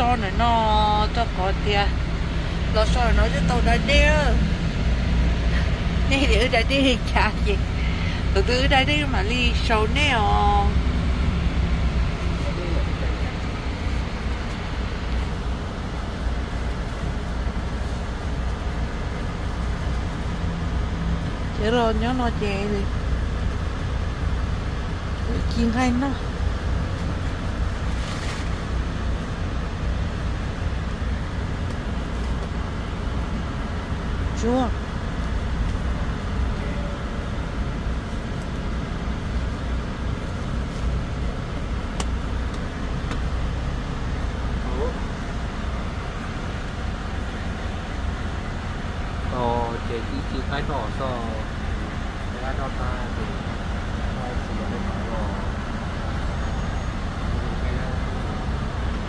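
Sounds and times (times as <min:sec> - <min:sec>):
truck engine low rumble: 0:00.0 - 0:59.0.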